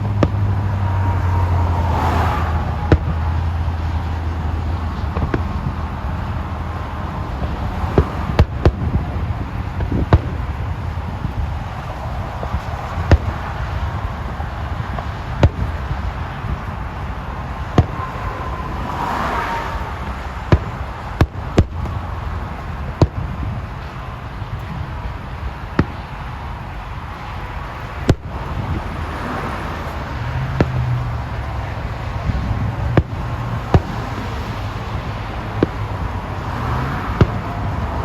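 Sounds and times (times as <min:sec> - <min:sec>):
fireworks bangs: 0:00.0 - 0:38.0.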